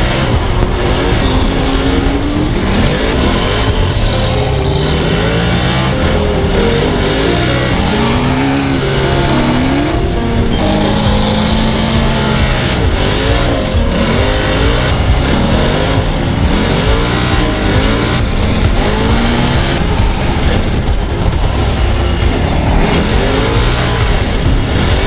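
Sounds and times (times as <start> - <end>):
off-road vehicle engines revving: 0.0 - 25.0.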